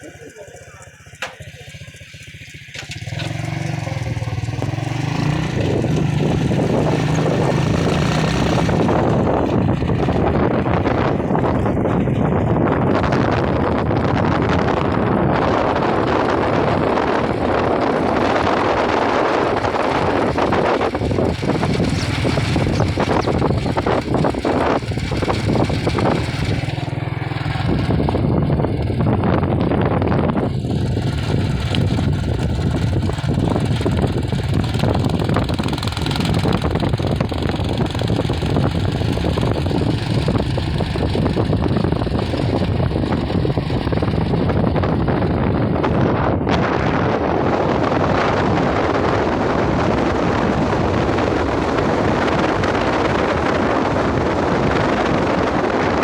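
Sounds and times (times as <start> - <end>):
vehicle engine: 0.0 - 56.0
wind buffeting microphone: 0.0 - 56.0.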